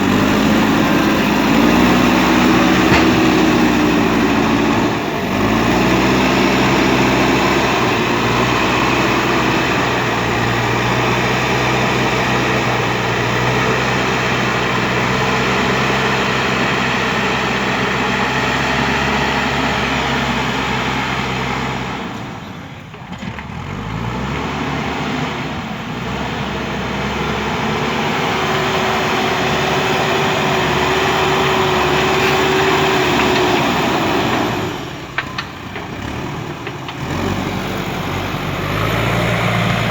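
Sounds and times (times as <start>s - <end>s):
diesel engine running: 0.0s - 24.0s, 24.8s - 39.9s.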